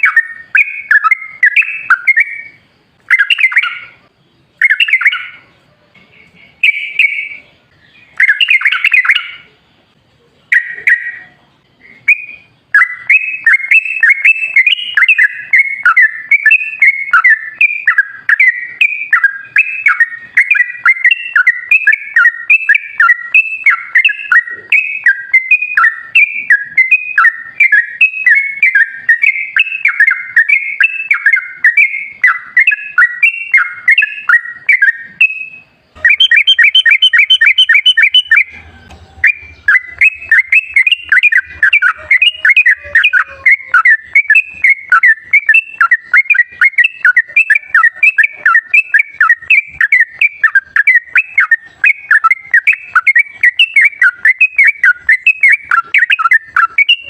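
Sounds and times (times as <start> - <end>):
bulbul song: 0.0 - 57.0.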